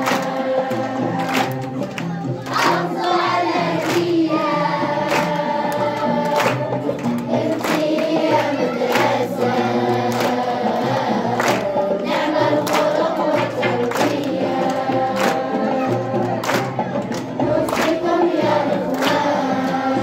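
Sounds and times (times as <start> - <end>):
choir singing to music: 0.0 - 20.0.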